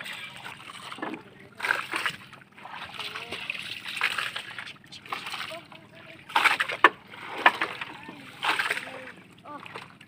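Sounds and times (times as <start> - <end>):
water splashing against boat hull: 0.0 - 10.0.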